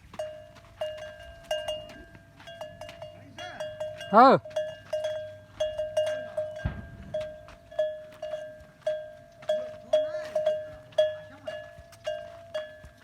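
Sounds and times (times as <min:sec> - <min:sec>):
camel bells ringing: 0:00.0 - 0:13.0.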